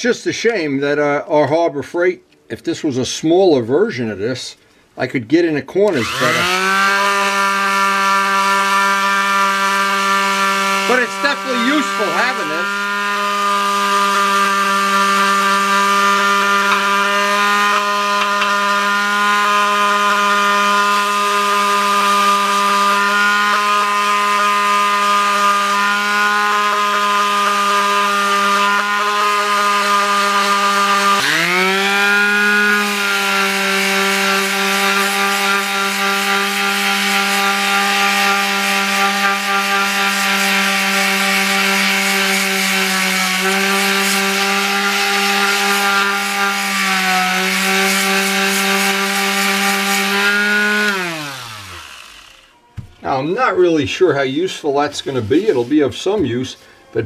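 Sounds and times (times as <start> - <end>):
electric sander humming: 5.9 - 53.2.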